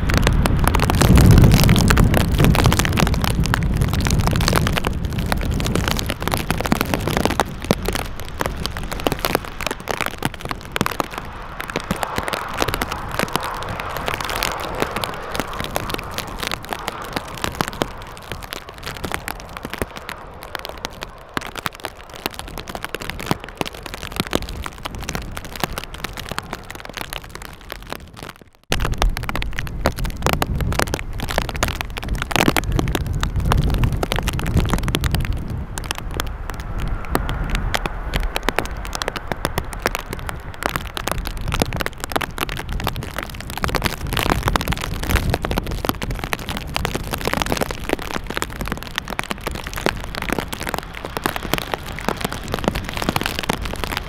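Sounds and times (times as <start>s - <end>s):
jet airliner rumble: 0.0s - 28.0s, 28.8s - 54.0s
rain: 0.0s - 54.0s
wind buffeting microphone: 0.0s - 54.0s.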